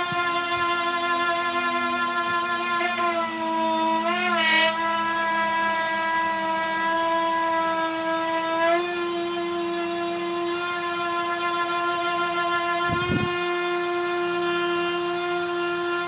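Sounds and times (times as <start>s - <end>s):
electric sander motor whine: 0.0s - 16.0s.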